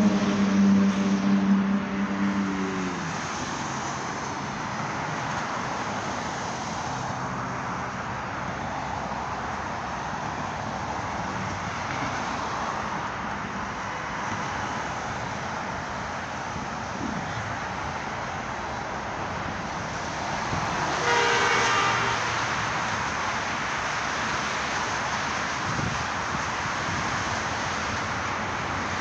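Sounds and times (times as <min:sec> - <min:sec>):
expressway traffic: 0:00.0 - 0:29.0.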